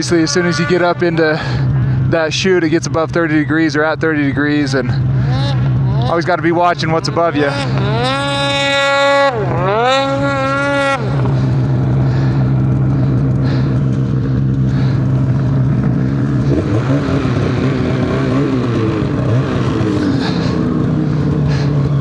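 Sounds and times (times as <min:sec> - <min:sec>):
snowmobile engine revving: 0:00.0 - 0:22.0.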